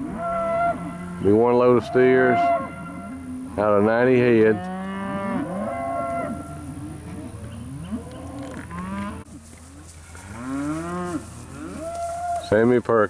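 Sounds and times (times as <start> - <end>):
cattle mooing and bawling: 0.0 - 9.2, 10.1 - 12.6.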